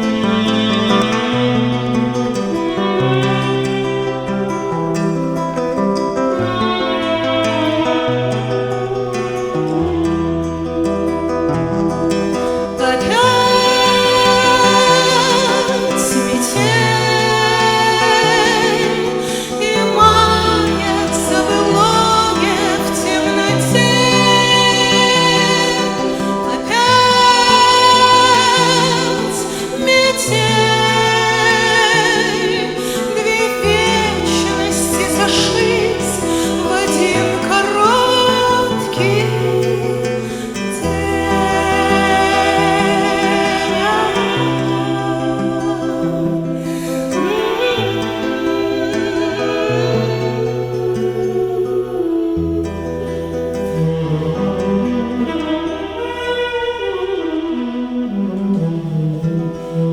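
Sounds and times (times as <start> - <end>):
acoustic guitar accompaniment: 0.0 - 59.9
person singing with vibrato: 0.0 - 59.9.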